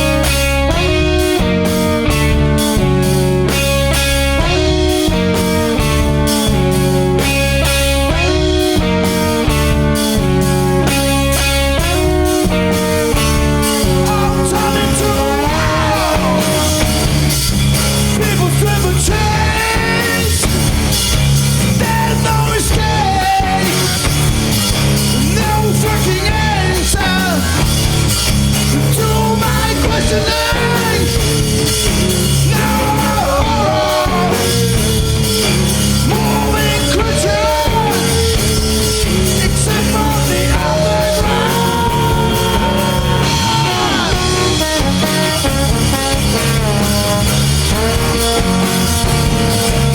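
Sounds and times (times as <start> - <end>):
rock band playing live: 0.0 - 49.9.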